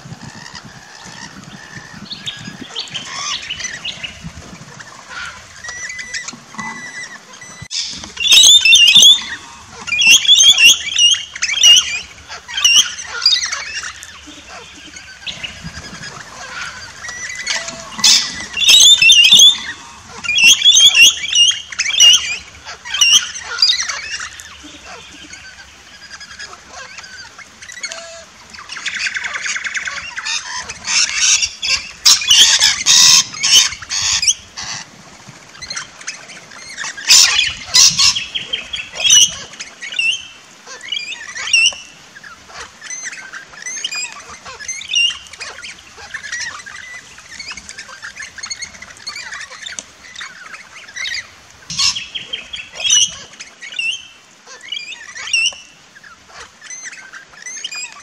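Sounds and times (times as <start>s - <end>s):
parrots screeching and chattering: 0.2s - 35.0s, 35.6s - 58.0s.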